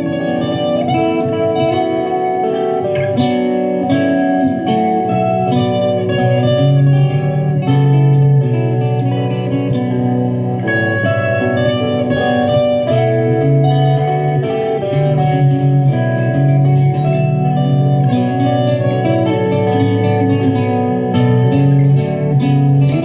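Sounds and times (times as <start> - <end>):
plucked guitar: 0.0 - 23.0.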